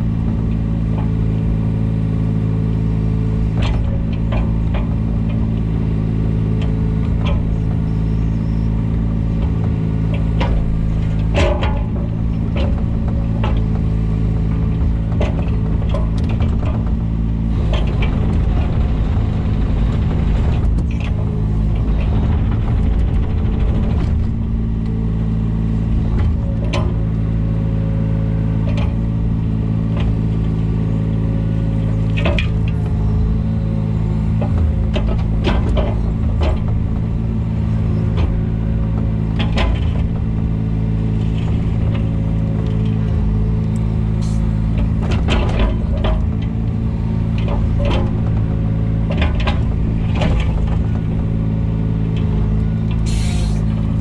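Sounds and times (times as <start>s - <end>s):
digging knocks and clanks: 0.0s - 54.0s
excavator diesel engine running: 0.0s - 54.0s.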